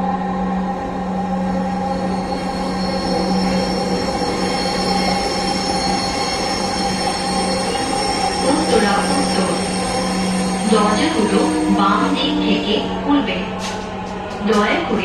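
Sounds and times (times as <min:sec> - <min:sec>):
thin high whine: 0:00.4 - 0:13.5
train wheels rumbling on track: 0:01.0 - 0:15.0.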